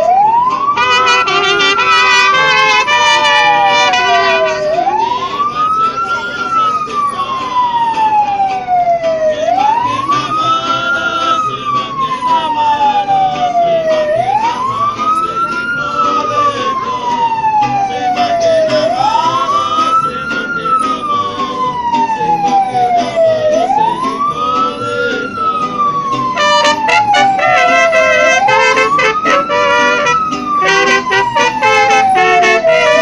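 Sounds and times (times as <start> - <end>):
vehicle siren wailing: 0.0 - 33.0.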